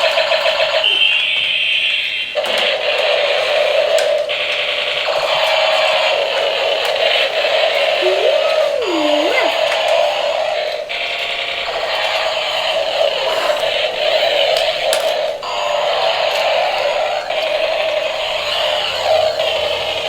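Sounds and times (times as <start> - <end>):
toy helicopter electronic buzzing drone: 0.0 - 20.0.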